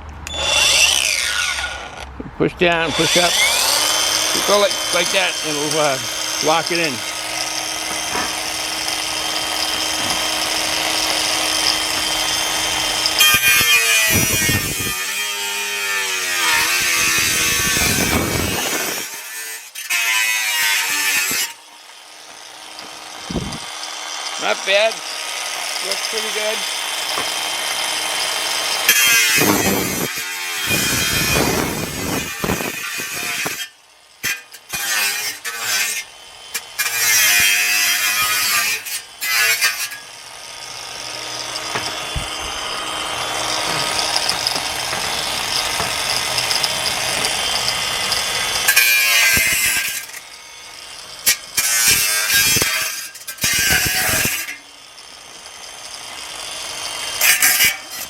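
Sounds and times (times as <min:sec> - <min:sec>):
angle grinder cutting metal: 0:00.0 - 0:58.0.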